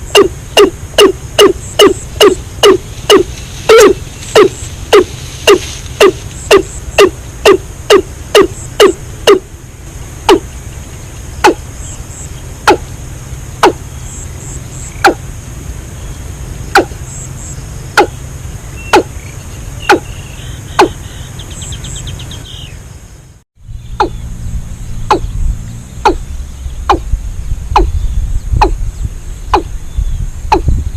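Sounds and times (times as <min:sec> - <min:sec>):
low hum: 0:00.0 - 0:30.9.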